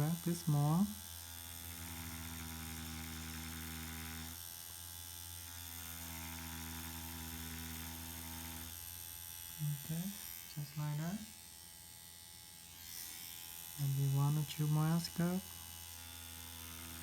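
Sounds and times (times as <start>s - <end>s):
tattoo machine buzzing: 0.0s - 17.0s.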